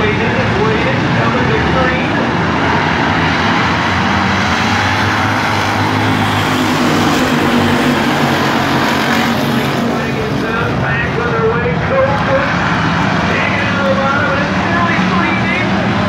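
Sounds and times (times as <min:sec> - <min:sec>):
race cars passing: 0:00.0 - 0:16.0.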